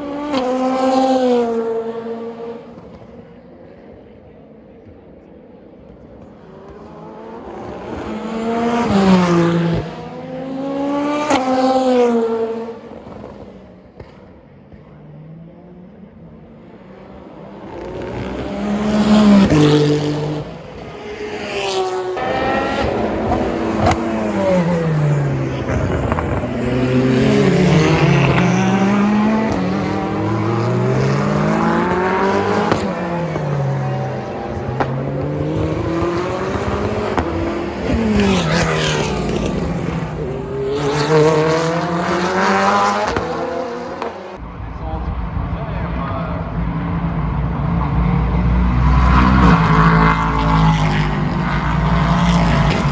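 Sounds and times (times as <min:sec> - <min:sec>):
race cars passing at speed: 0:00.0 - 0:52.9.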